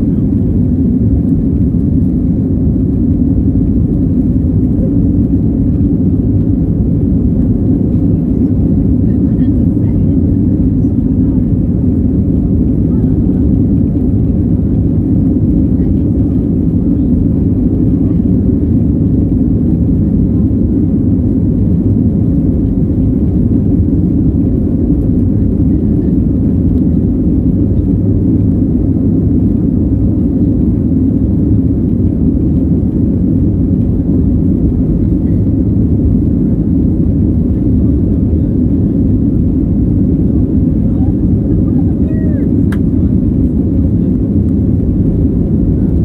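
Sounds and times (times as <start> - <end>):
jet engines droning in cabin: 0.0 - 46.0.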